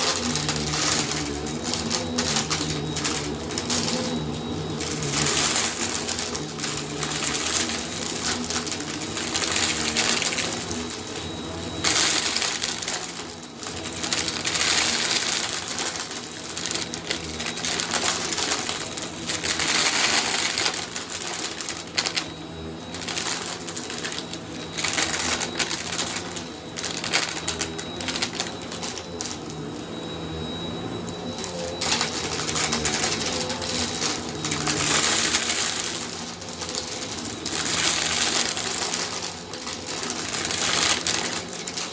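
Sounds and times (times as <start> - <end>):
vacuum cleaner on rug: 0.0 - 41.9.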